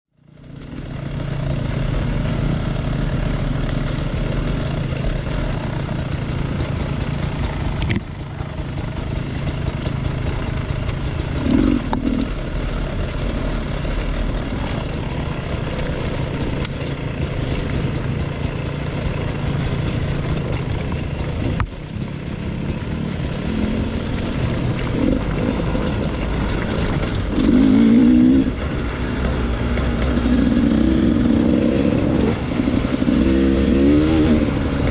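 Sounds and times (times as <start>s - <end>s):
road noise: 0.1s - 34.9s
dirt bike engine revving: 0.2s - 34.9s.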